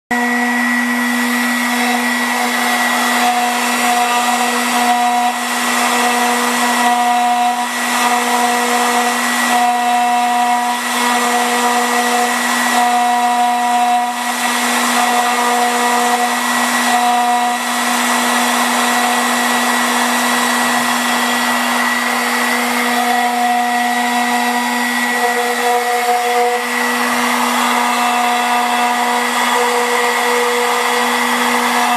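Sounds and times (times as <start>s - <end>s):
bit cutting into stone: 0.1s - 31.9s
router spindle hum and whine: 0.1s - 31.9s.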